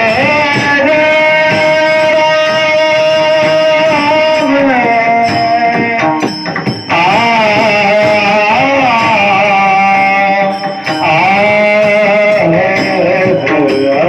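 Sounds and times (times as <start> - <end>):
devotional music with wavering notes: 0.0 - 14.0.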